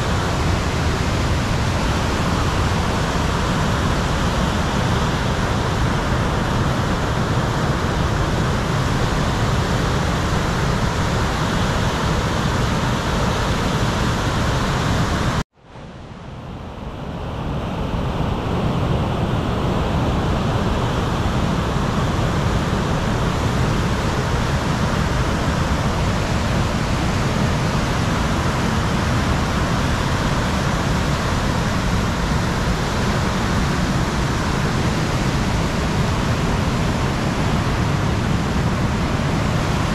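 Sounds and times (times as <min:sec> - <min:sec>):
river rapids rushing: 0:00.0 - 0:15.4, 0:17.8 - 0:39.9.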